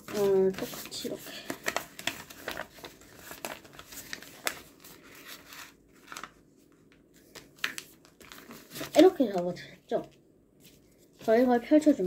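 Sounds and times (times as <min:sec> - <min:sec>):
paper crackling and rustling: 0:00.0 - 0:12.0.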